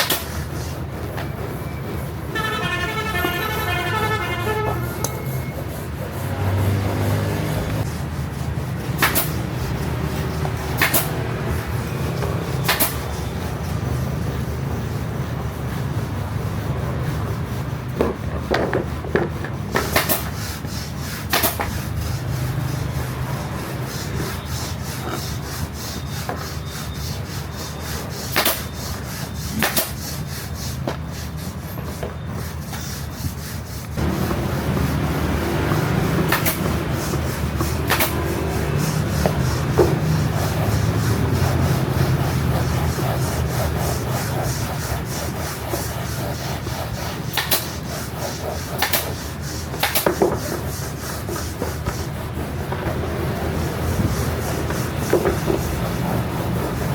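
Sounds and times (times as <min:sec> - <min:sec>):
hands rubbing and scraping seat: 0:00.0 - 0:56.9.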